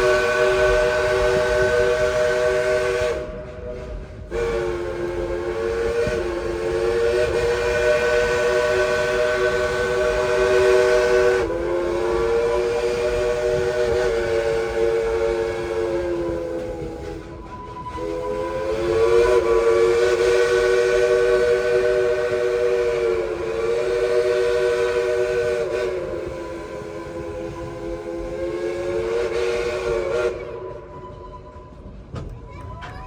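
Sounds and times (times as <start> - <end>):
steam locomotive chime whistle: 0.0 - 32.9.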